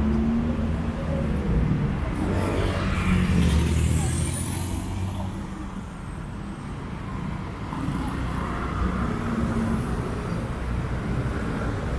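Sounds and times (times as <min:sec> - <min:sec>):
road traffic rumble: 0:00.0 - 0:11.9.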